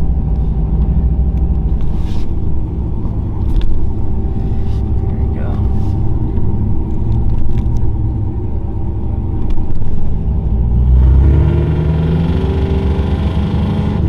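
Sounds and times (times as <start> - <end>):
truck engine idling and revving: 0.0 - 14.0.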